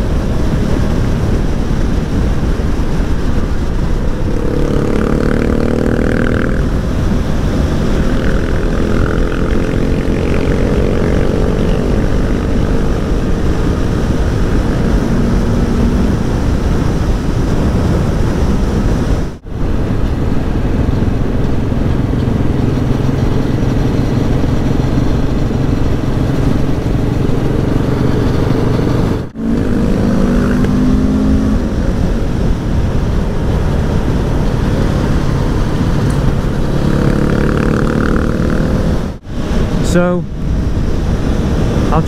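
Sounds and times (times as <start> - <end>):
motorcycle engine running: 0.0 - 39.7
wind rush: 0.0 - 42.0.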